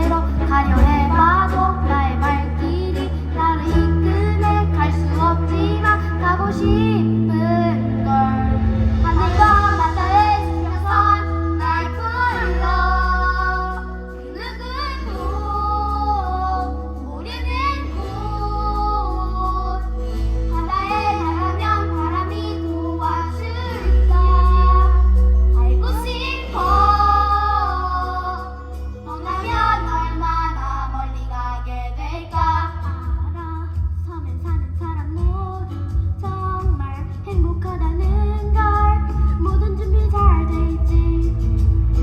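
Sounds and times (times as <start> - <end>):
child singing: 0.0 - 41.5
backing track with bass: 0.0 - 42.0.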